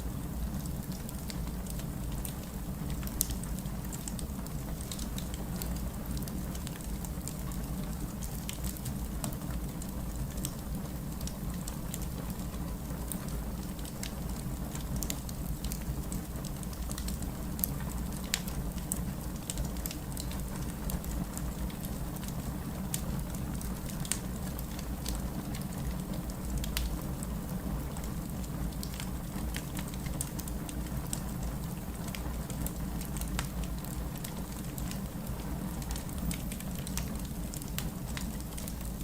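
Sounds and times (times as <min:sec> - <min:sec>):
steady rain: 0:00.0 - 0:39.0
wood fire crackling: 0:00.1 - 0:39.0.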